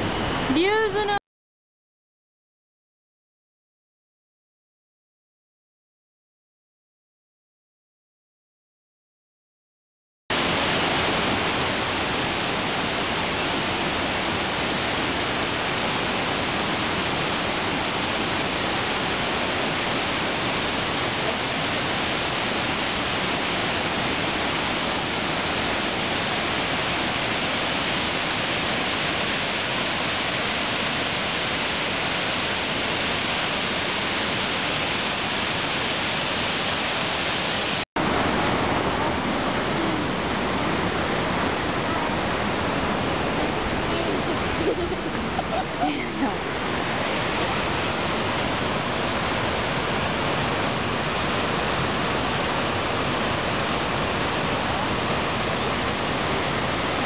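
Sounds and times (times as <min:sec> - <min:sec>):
waterfall rushing over rocks: 0:10.3 - 0:57.0.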